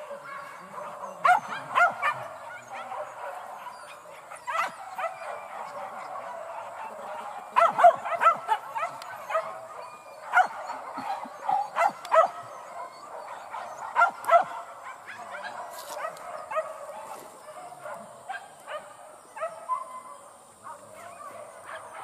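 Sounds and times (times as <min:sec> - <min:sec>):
dogs yelping and barking: 0:00.0 - 0:22.0.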